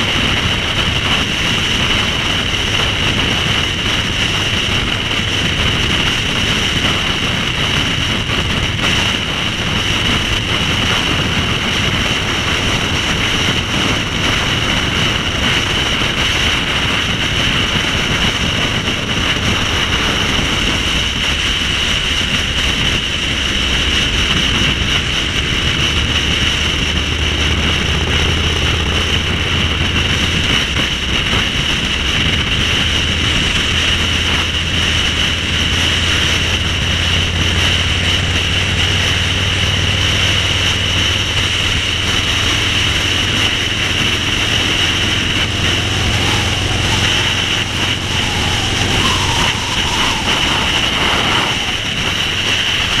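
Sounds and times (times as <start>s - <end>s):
motorcycle engine running: 0.0s - 53.0s
wind noise: 0.0s - 53.0s.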